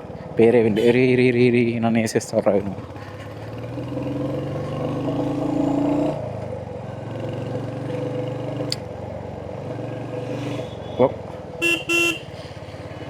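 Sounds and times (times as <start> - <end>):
motorcycle engine running: 2.5 - 13.0.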